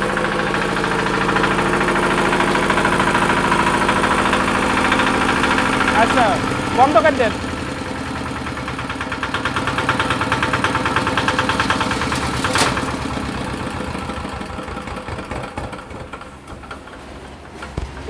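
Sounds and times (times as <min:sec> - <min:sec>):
diesel engine knocking: 0:00.0 - 0:18.0.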